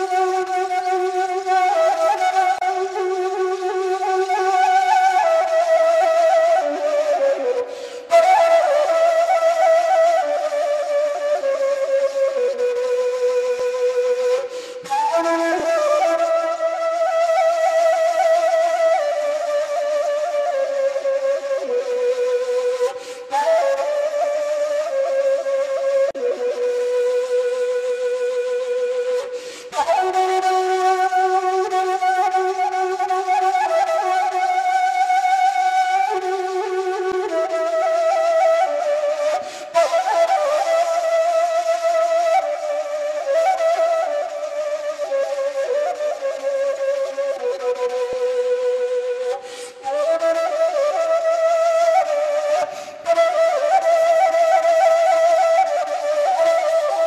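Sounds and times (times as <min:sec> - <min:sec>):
solo flute slow melody: 0:00.0 - 0:57.0.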